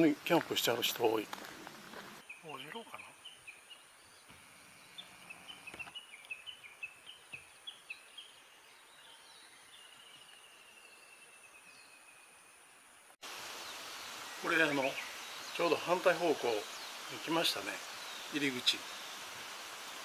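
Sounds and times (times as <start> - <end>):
small songbird chirping: 0.0 - 20.0.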